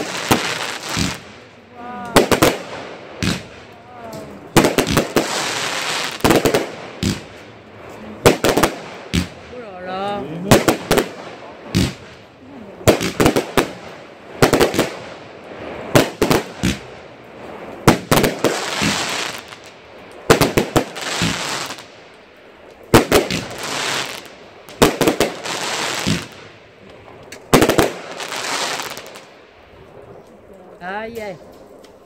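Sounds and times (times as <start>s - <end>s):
fireworks bangs: 0.0s - 31.8s
fireworks crackling: 0.0s - 32.0s.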